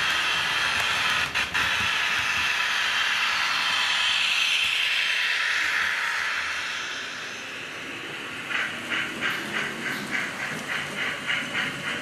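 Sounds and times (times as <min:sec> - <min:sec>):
model steam locomotive chuffing: 0:00.0 - 0:12.0
steam hiss: 0:00.0 - 0:12.0.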